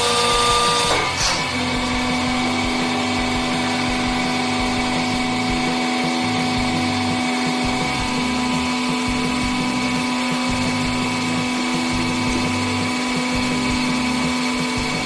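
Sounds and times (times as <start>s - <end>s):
hydraulic press pump humming: 0.0s - 15.0s.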